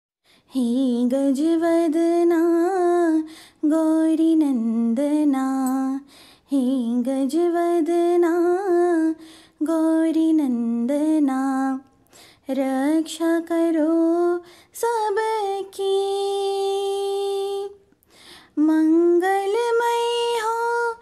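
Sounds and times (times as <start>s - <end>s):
woman singing: 0.4s - 21.0s.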